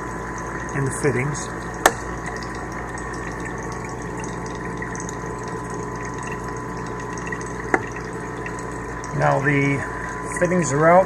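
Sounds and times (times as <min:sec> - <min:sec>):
mechanical hum with high whine: 0:00.0 - 0:11.0.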